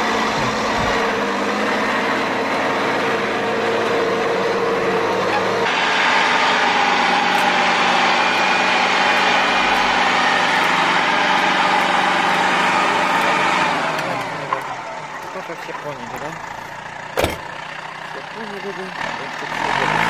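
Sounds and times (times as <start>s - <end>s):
wheels working through mud: 0.0s - 16.8s, 18.0s - 20.0s
tractor diesel engine running: 0.0s - 20.0s.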